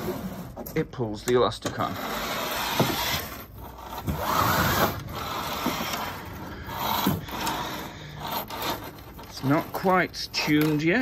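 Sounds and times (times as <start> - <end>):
rope rasping over fittings: 0.0 - 11.0.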